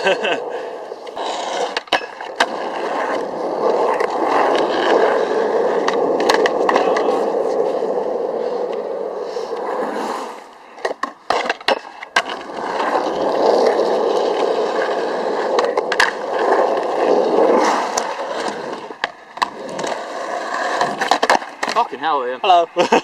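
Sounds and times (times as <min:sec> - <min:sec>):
skateboard deck clacking down: 0:00.0 - 0:08.9, 0:10.7 - 0:21.9
skateboard wheels rolling: 0:00.0 - 0:23.0.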